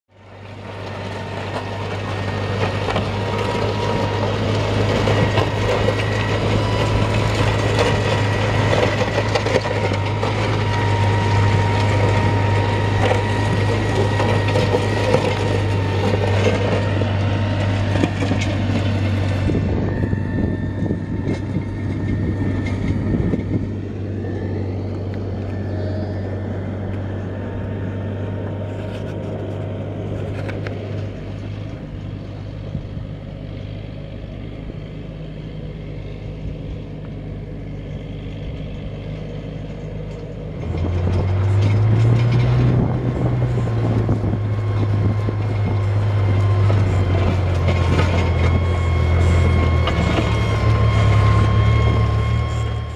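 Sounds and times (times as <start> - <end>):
tractor engine under load: 0.1 - 52.9.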